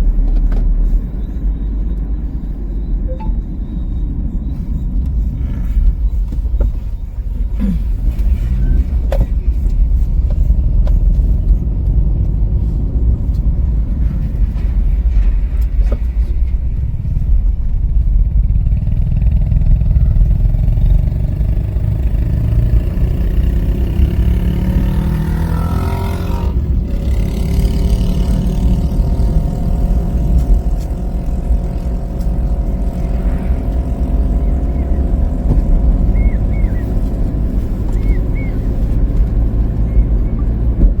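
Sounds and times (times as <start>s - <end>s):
road and wind noise: 0.0s - 41.0s
passing vehicle engine: 7.4s - 41.0s.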